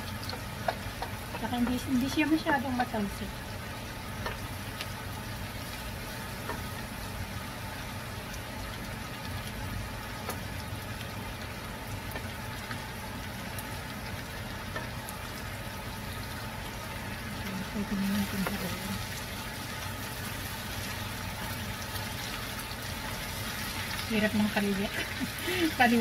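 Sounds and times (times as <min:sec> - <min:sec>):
onions sizzling in oil: 0:00.0 - 0:26.0.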